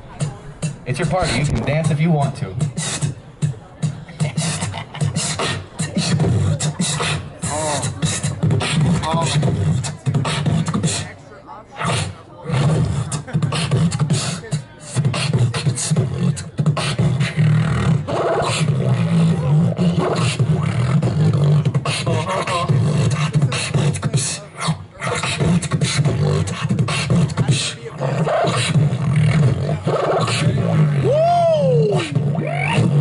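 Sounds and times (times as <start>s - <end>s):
amplified beatboxing: 0.0s - 11.2s, 11.8s - 33.0s.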